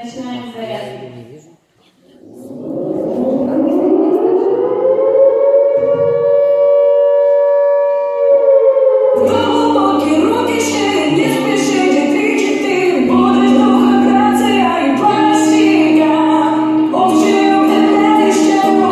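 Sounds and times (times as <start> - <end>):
siren-like rising tone: 2.2 - 18.9.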